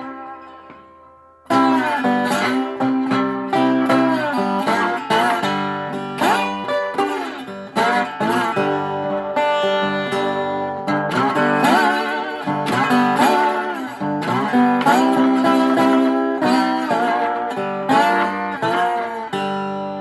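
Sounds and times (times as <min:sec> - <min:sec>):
slide resonator guitar chords: 0:00.0 - 0:20.0.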